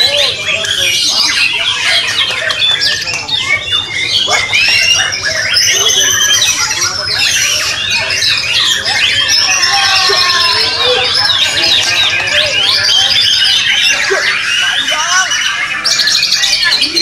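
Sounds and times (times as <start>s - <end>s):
birds singing: 0.0s - 17.0s.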